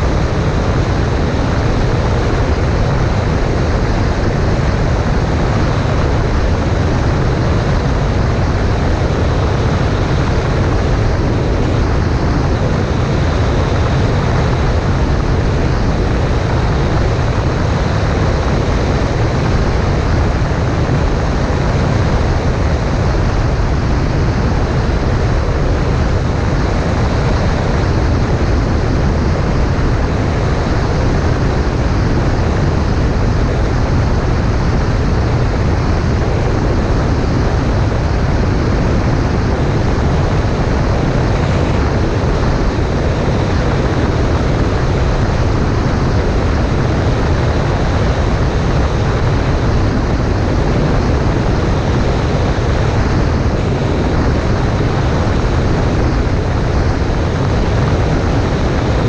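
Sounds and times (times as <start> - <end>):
light airplane engine drone: 0.0 - 59.0.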